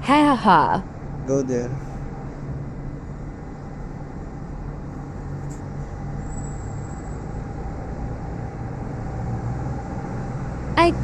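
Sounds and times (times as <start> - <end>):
distant road traffic rumble: 0.0 - 11.0.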